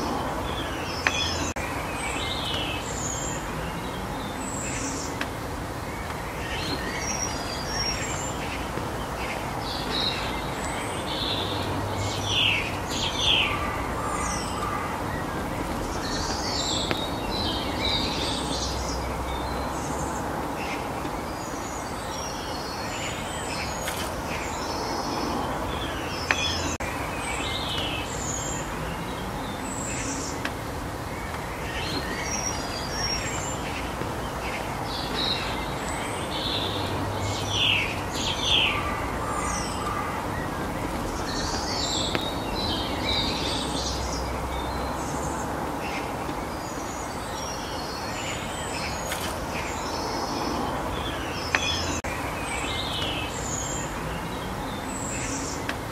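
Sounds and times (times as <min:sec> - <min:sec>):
outdoor background noise: 0:00.0 - 0:55.9
small songbirds chirping: 0:00.0 - 0:55.9.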